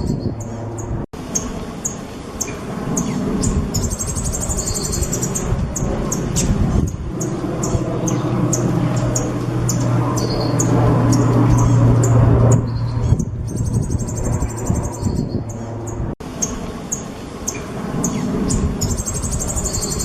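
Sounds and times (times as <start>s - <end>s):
songbird chirping and trilling: 0.0s - 20.0s
steady low hum: 0.0s - 20.0s.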